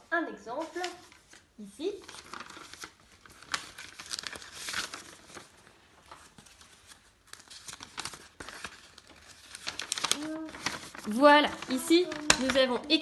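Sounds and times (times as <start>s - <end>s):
paper rustling and crinkling: 0.5s - 13.0s.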